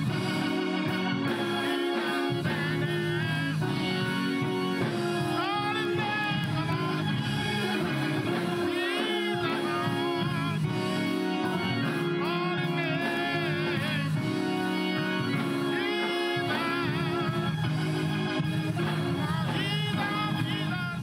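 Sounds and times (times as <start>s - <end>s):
gospel choir singing: 0.0s - 21.0s
organ chords: 0.0s - 21.0s.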